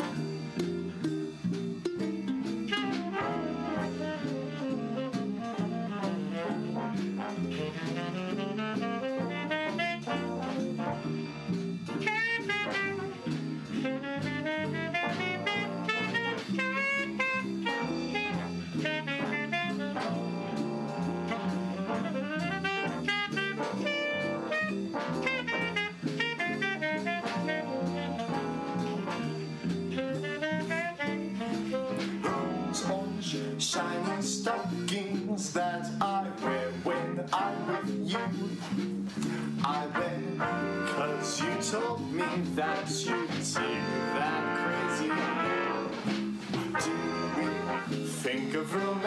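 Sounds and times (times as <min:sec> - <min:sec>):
rhythm section: 0:00.0 - 0:49.0
saxophones and brass: 0:00.0 - 0:49.0.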